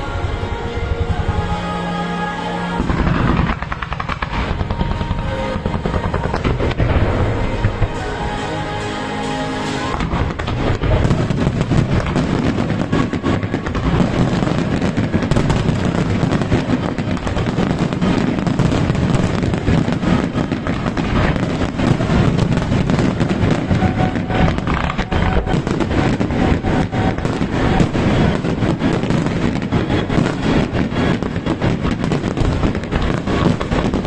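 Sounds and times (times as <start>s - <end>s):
fireworks bangs and crackling: 0.0s - 34.0s
rumble of fireworks booms: 2.8s - 8.4s, 9.9s - 34.0s.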